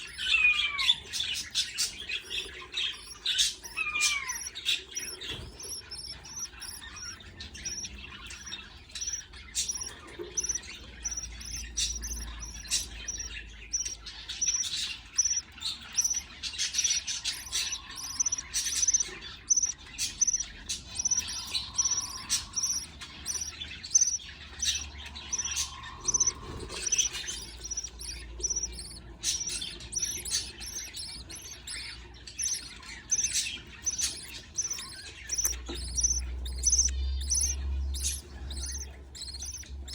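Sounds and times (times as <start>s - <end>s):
budgerigar chicks begging chirps: 0.0s - 39.9s.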